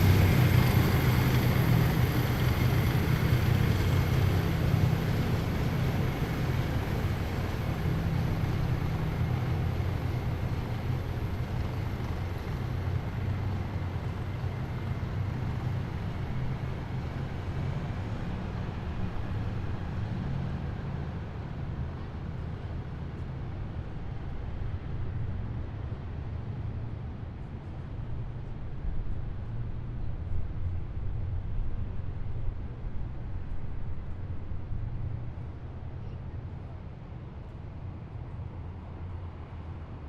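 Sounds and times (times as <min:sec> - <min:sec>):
heavy vehicles engine rumble: 0:00.0 - 0:40.0.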